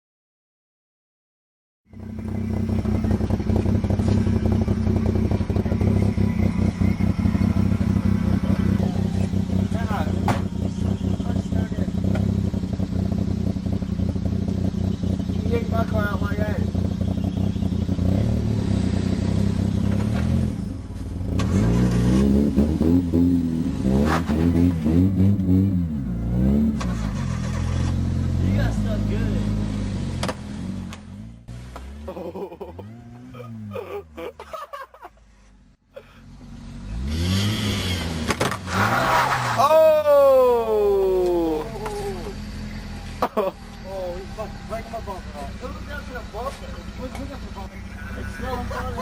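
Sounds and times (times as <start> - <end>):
vehicle engine running: 1.9 - 34.3, 40.1 - 49.0.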